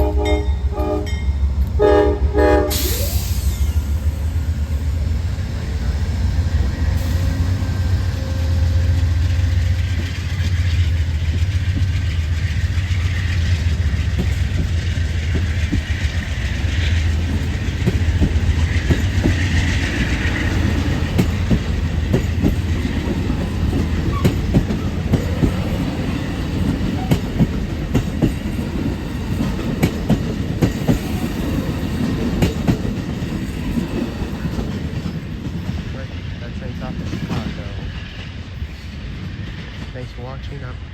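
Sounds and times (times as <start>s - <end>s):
diesel locomotive drone: 0.0s - 40.9s
train wheels clicking over rail joints: 2.7s - 40.7s.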